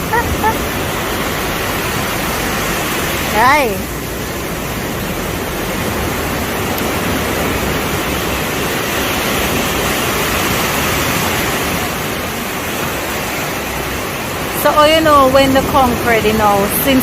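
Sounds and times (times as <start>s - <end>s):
rushing surf at shore: 0.0s - 17.0s.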